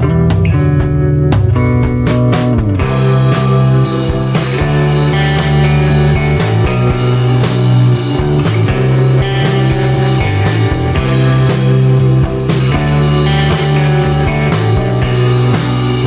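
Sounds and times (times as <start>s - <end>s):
rock music with guitar: 0.0s - 16.0s
steady drum beat: 0.0s - 16.0s.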